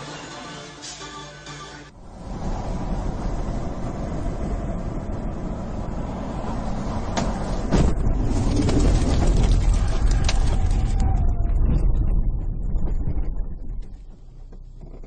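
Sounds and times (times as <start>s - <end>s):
car road and engine rumble: 1.9s - 15.0s.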